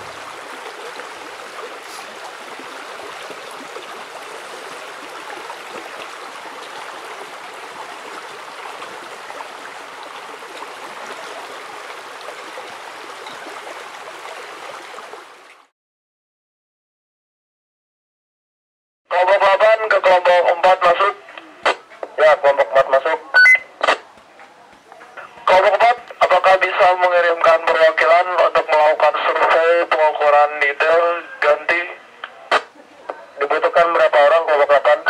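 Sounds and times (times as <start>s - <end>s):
stream flowing: 0.0s - 15.7s, 19.2s - 35.0s.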